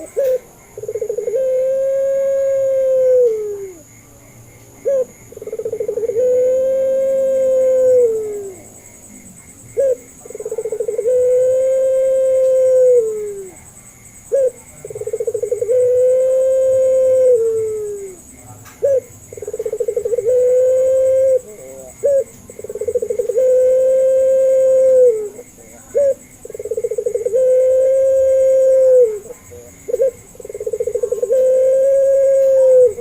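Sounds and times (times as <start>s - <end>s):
dove cooing: 0.0s - 3.9s, 4.8s - 8.8s, 9.4s - 33.0s.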